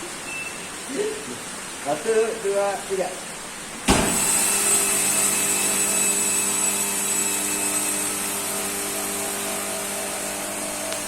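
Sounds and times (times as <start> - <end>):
vacuum pump humming and whining: 0.0 - 11.0.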